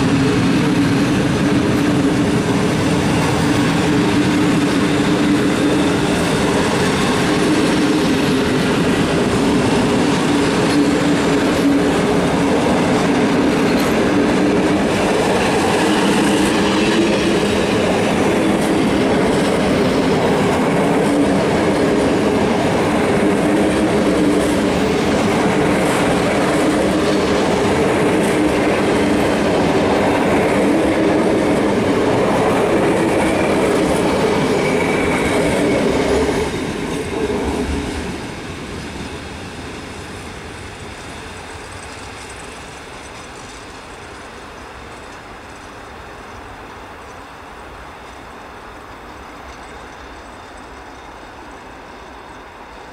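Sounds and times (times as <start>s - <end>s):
train wheels rolling on rails: 0.0s - 52.9s.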